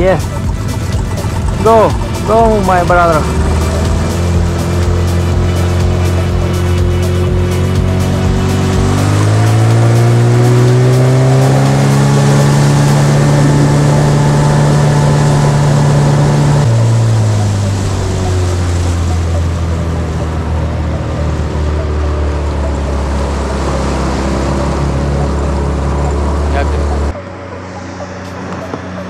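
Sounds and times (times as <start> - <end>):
water rushing past hull: 0.0 - 27.2
outboard motor running: 0.0 - 29.0.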